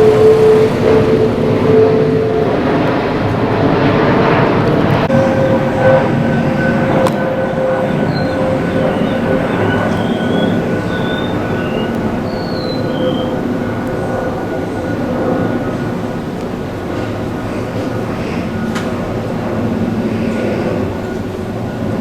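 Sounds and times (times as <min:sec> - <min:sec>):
jet engines passing overhead: 0:00.0 - 0:22.0.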